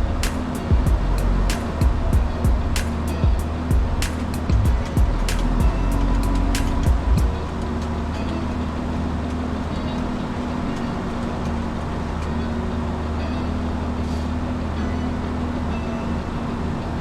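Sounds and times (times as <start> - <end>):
aircraft engine and airflow noise: 0.0 - 17.0
constant low hum: 0.0 - 17.0.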